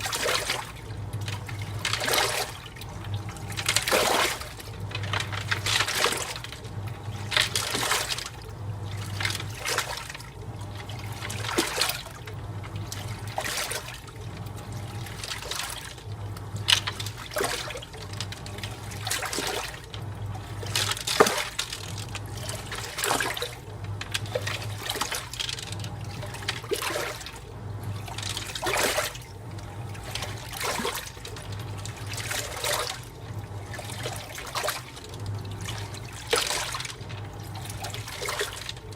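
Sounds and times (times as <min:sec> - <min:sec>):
washing machine motor hum: 0:00.0 - 0:38.9
washing machine water sloshing: 0:00.0 - 0:38.9.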